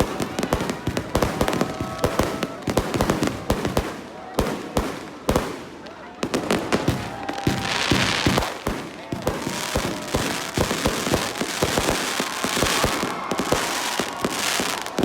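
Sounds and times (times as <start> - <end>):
fireworks bangs: 0.0 - 15.0
fireworks crackle: 0.0 - 15.0.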